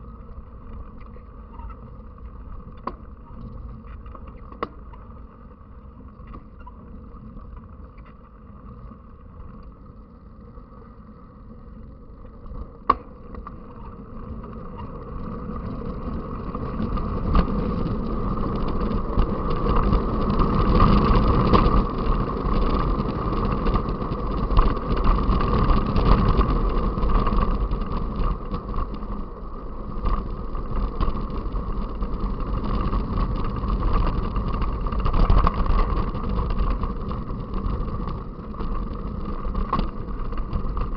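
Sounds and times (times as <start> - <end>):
mountain bike riding noise: 0.0 - 40.9
tyre noise: 0.0 - 40.9
wind: 0.0 - 40.9.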